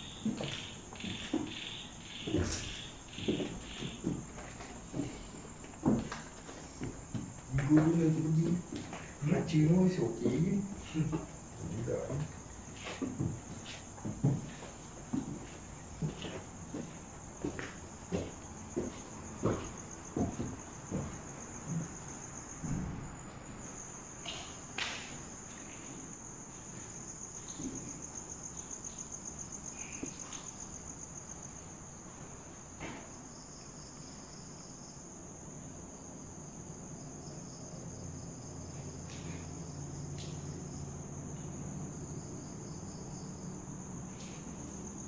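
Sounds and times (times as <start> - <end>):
night insects trilling: 0.0 - 45.0.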